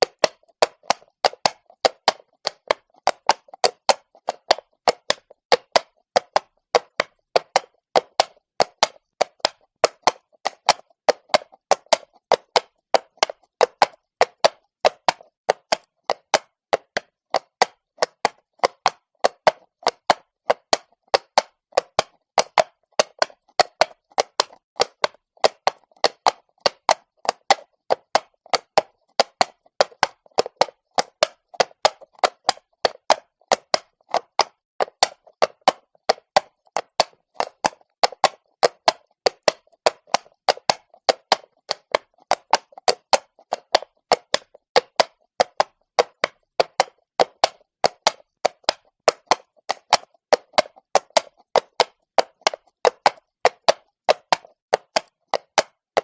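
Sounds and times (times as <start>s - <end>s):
horse hooves on cobblestones: 0.0s - 55.4s.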